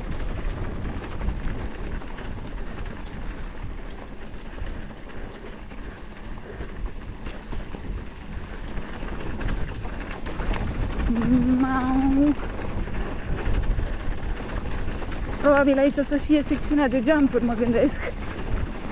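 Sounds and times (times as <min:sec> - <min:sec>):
bike clicks and rattles: 0:00.0 - 0:18.9
wind rushing over microphone: 0:00.0 - 0:18.9.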